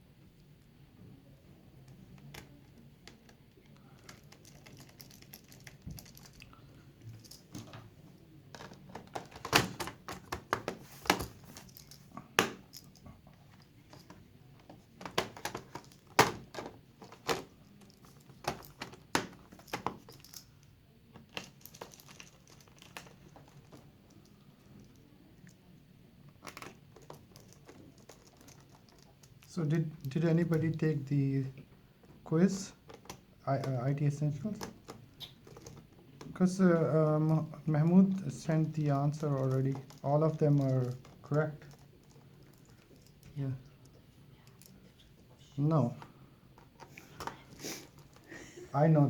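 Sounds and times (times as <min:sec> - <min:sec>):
crinkling: 0:01.9 - 0:25.6, 0:26.3 - 0:30.2, 0:32.2 - 0:48.6
plastic parts clicking and knocking: 0:02.2 - 0:07.9, 0:08.5 - 0:20.5, 0:21.1 - 0:25.6, 0:26.3 - 0:30.8, 0:32.0 - 0:36.6, 0:37.8 - 0:44.8, 0:45.9 - 0:48.4.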